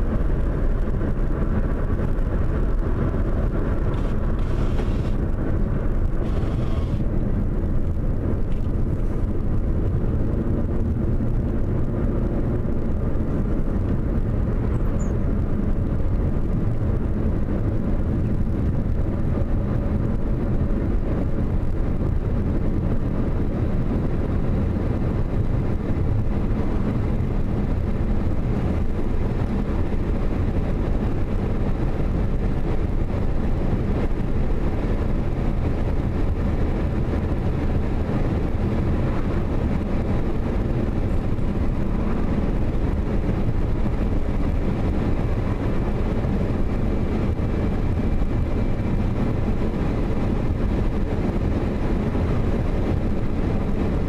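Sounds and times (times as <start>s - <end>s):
car road noise from inside: 0.0s - 54.0s.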